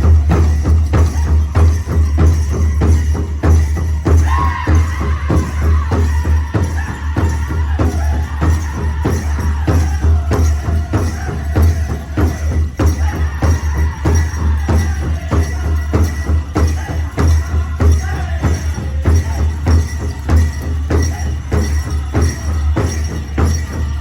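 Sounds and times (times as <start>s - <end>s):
drum beaten steadily: 0.0s - 24.0s.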